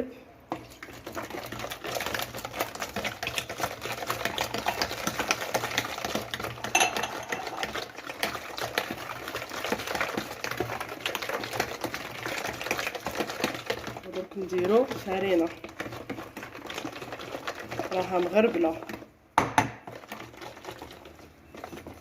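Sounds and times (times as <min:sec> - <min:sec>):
batter beaten in a bowl: 0:00.5 - 0:22.0.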